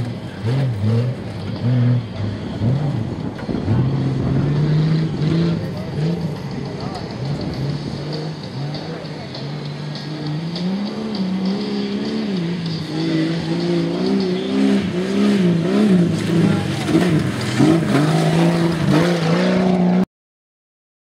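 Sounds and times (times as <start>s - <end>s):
truck engine revving hard: 0.0s - 20.1s.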